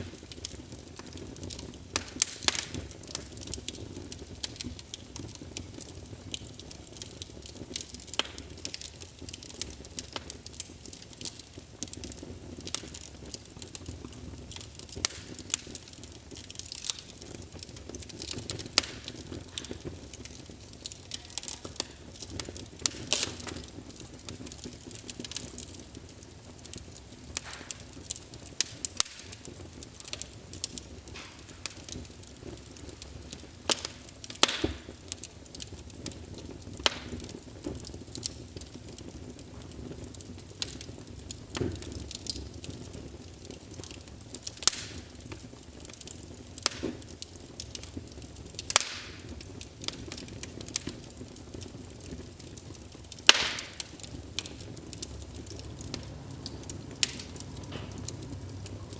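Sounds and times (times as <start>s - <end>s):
logs crackling and popping: 0.0s - 58.9s
wood fire hissing: 0.0s - 58.9s.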